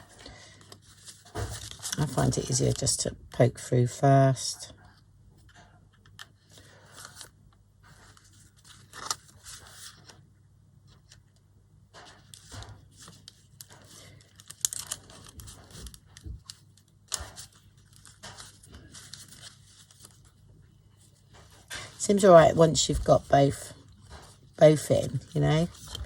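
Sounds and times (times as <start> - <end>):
paper rustling and scraping: 0.0 - 3.0, 6.4 - 10.3, 11.9 - 26.0.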